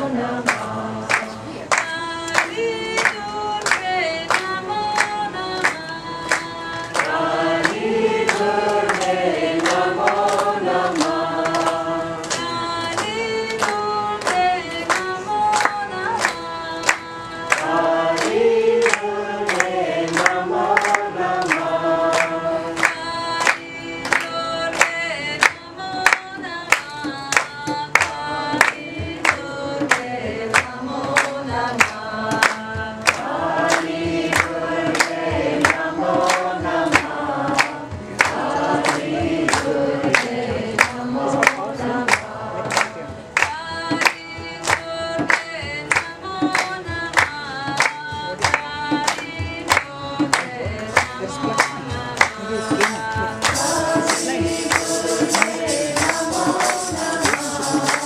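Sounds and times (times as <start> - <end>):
group chanting a melody: 0.0 - 58.0
sharp percussive strikes: 0.0 - 58.0.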